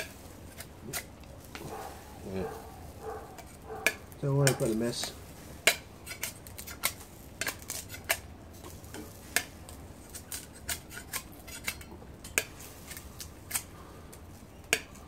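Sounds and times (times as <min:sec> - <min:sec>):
knife scraping sugar cane rind: 0:00.0 - 0:15.0.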